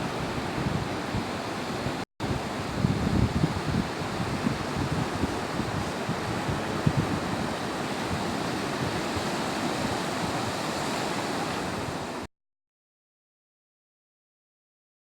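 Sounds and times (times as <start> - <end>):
sea surf washing on beach: 0.0 - 12.3
wind gusts on microphone: 0.0 - 12.3.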